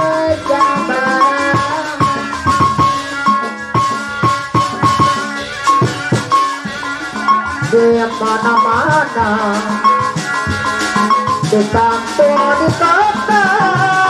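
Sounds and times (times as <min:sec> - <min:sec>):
hand drums beating: 0:00.0 - 0:14.0
metallophones ringing: 0:00.0 - 0:14.0
wavering melodic line: 0:00.0 - 0:14.0.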